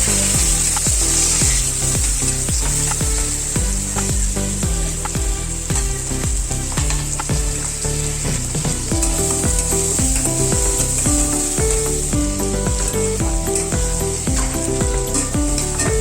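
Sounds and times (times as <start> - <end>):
background music with a beat: 0.0 - 16.0
fish frying in hot oil: 0.0 - 16.0.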